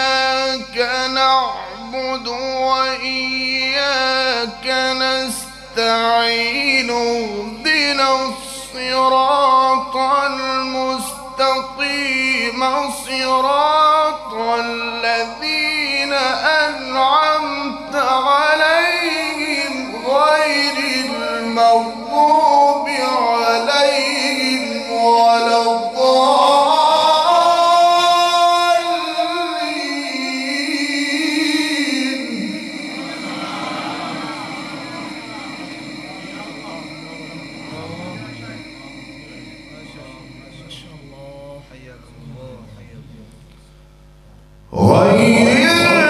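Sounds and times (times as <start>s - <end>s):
man reciting in melodic chant: 0.0s - 43.8s, 44.7s - 46.0s.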